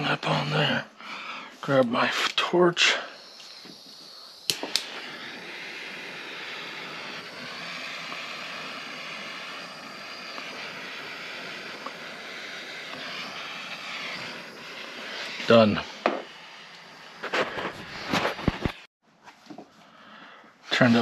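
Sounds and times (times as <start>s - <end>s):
torch flame hissing: 0.0s - 18.9s, 20.8s - 21.0s
torch igniter clicks: 1.7s - 18.8s.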